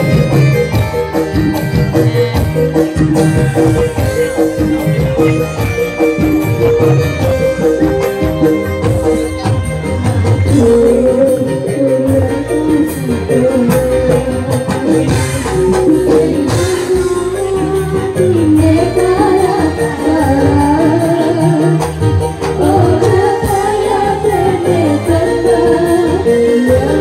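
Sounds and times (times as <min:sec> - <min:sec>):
drum and percussion strokes: 0:00.0 - 0:23.8
wavering melody line: 0:00.0 - 0:27.0.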